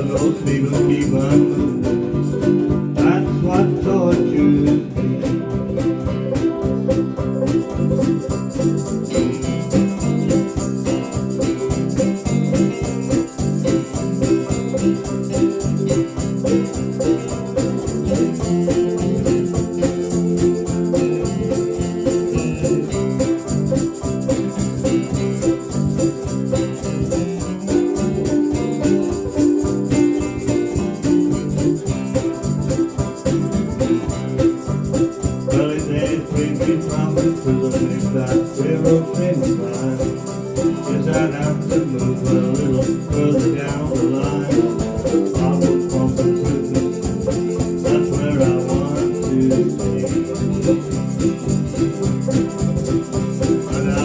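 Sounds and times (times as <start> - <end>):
country band instrumental: 0.0 - 54.0.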